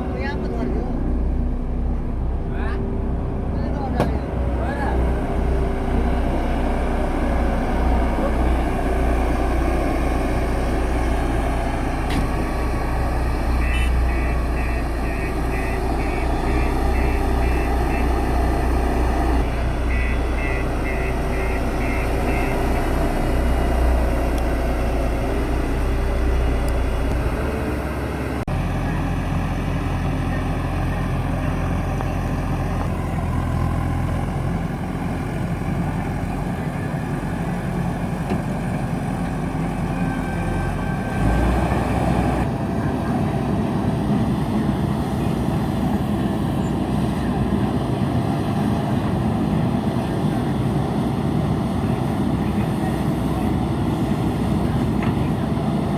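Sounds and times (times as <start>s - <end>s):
backhoe diesel engine running: 0.0s - 55.9s.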